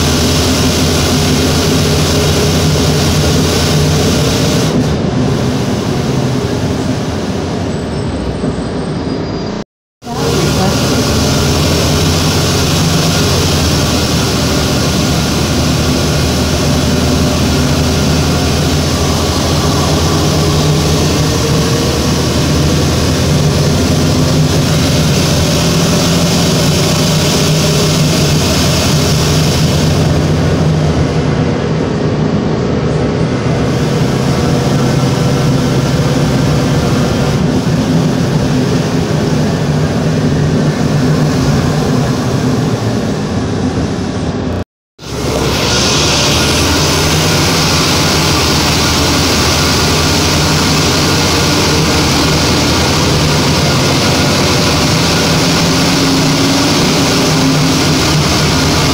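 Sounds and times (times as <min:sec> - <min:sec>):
engine hiss: 0:00.0 - 0:07.8, 0:10.0 - 0:58.9
bus engine low hum: 0:00.0 - 0:58.9.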